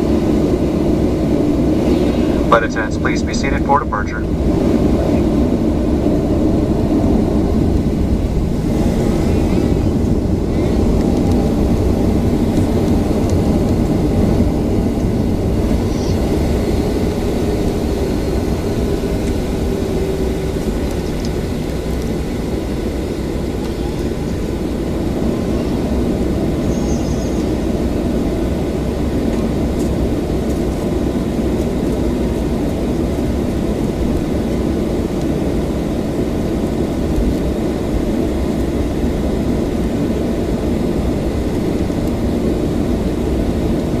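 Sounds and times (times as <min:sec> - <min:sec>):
jet engines low rumble in cabin: 0:00.0 - 0:44.0.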